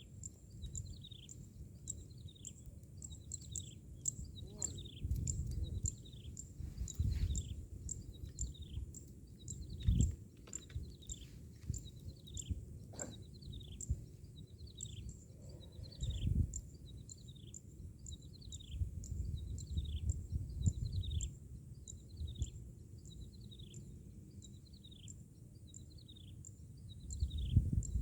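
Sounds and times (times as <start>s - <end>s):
wind rumble on microphone: 0.0s - 25.1s, 26.0s - 28.0s.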